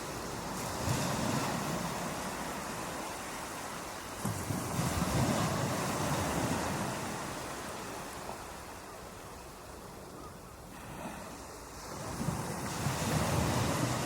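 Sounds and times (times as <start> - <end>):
ocean waves washing on beach: 0.0 - 14.0.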